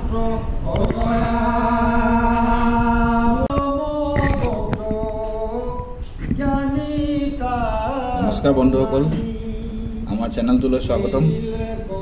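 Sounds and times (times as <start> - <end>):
devotional chanting: 0.0 - 12.0.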